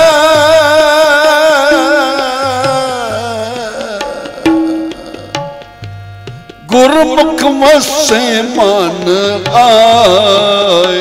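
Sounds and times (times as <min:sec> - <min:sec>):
harmonium chord: 0:00.0 - 0:11.0
tabla strokes: 0:00.0 - 0:11.0.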